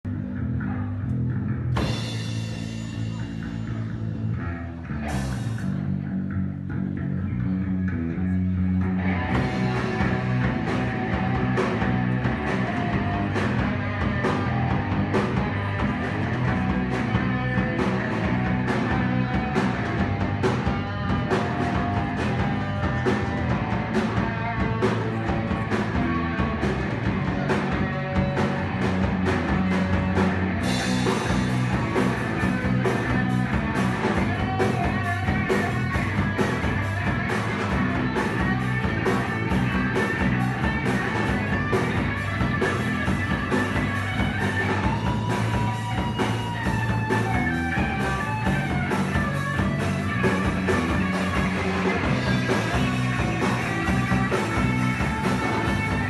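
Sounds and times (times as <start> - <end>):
electric guitar: 0.0 - 56.0
drum kit beat: 1.5 - 7.7, 8.8 - 56.0.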